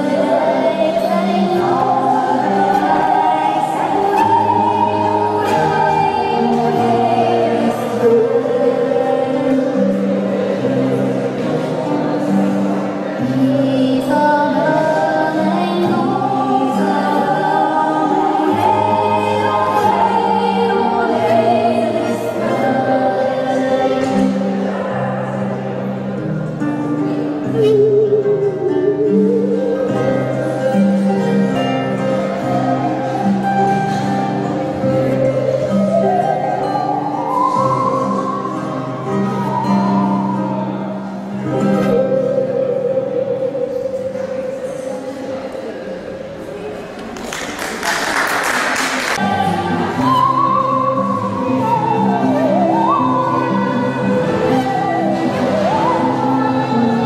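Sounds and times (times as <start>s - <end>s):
musical saw singing tone: 0.0s - 46.0s, 49.2s - 57.0s
low held accompaniment notes: 0.0s - 47.0s.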